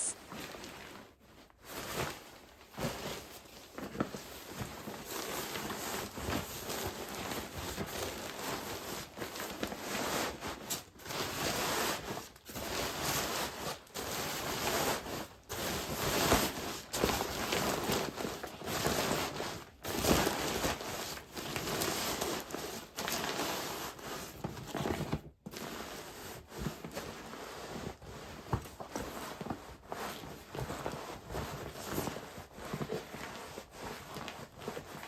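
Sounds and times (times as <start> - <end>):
fabric rustling and crinkling: 0.0 - 35.0.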